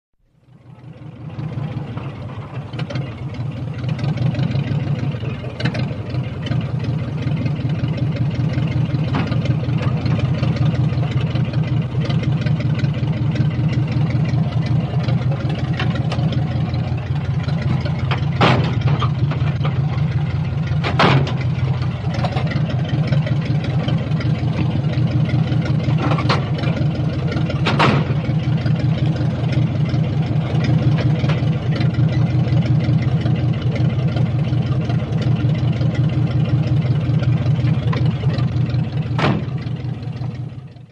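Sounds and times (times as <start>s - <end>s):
old car engine idling: 0.2s - 40.9s.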